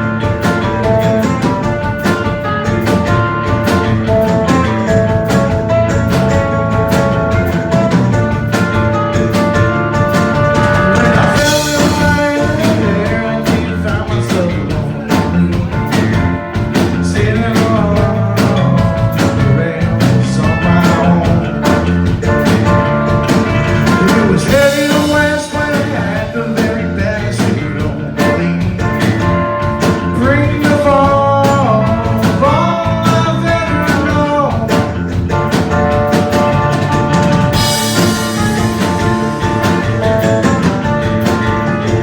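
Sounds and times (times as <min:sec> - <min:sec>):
drum kit beat: 0:00.0 - 0:42.0
rock band playing live: 0:00.0 - 0:42.0.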